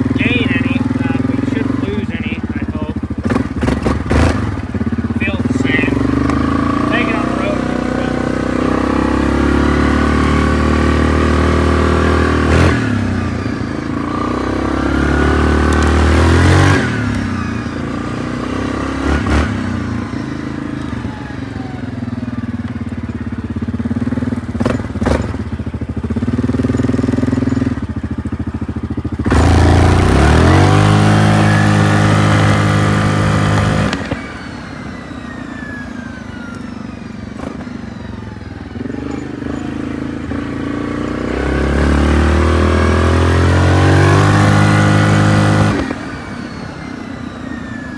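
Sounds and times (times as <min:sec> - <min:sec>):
atv engine revving: 0:00.0 - 0:47.9.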